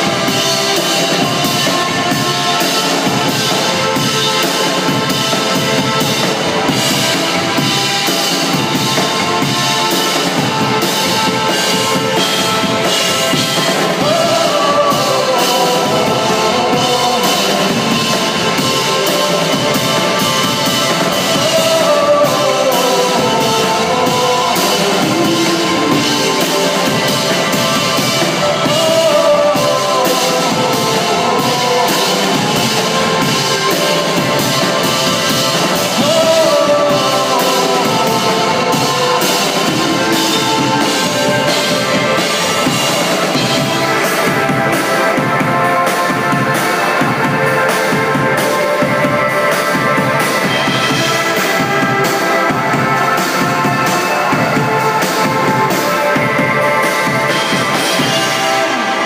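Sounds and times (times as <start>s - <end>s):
distorted electric guitar: 0.0s - 59.0s
drum kit: 0.0s - 59.0s
man singing: 0.0s - 59.0s.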